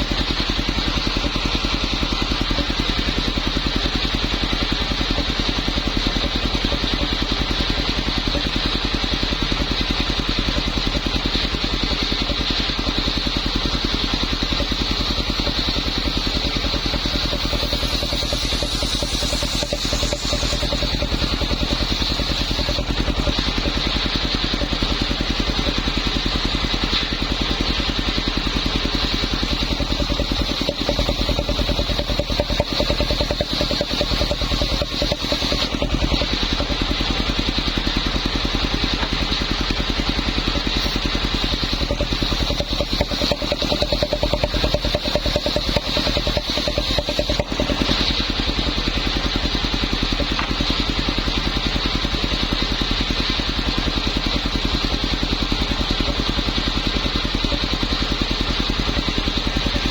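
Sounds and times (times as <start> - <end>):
circular saw rig pulsing whine: 0.0 - 59.9.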